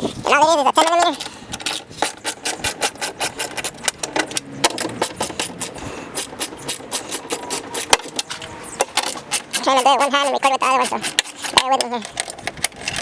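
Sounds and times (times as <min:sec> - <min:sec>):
ratchet wrench clicking: 0:01.0 - 0:08.4, 0:09.0 - 0:12.3.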